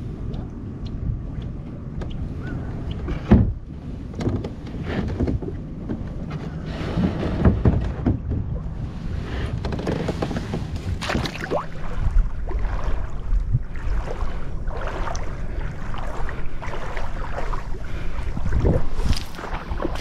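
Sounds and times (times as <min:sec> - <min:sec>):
wind rumbling on microphone: 0:00.0 - 0:20.0
water sloshing and splashing: 0:01.3 - 0:20.0.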